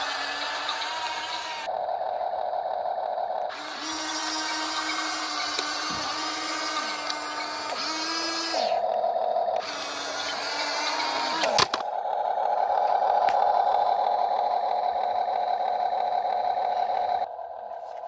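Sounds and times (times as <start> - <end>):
electric motors whining: 0.0 - 17.3
rough low motor whine: 0.0 - 18.0.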